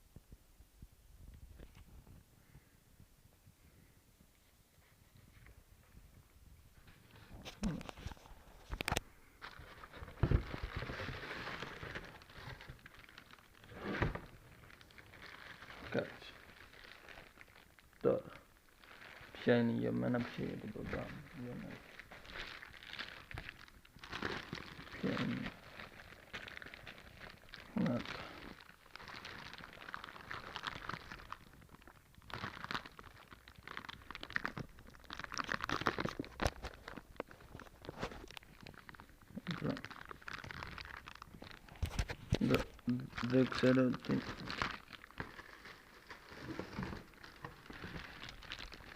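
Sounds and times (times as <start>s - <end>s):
packaging crinkling rustle: 6.8s - 48.9s.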